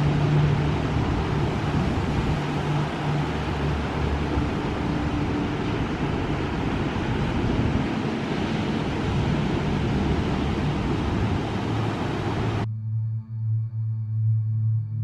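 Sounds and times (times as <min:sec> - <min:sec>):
ocean surf breaking: 0:00.0 - 0:12.6
wind buffeting microphone: 0:00.0 - 0:12.7.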